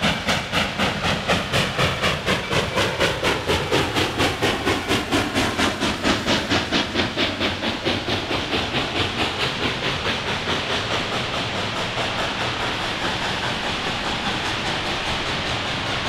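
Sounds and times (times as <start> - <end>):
steam locomotive exhaust chuffs: 0.0 - 16.0
train cars rolling rumble: 0.0 - 16.0.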